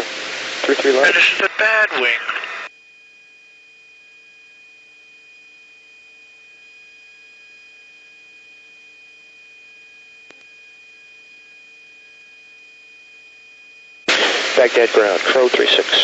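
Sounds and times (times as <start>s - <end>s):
faint electronic tone and hum: 0.0s - 16.0s.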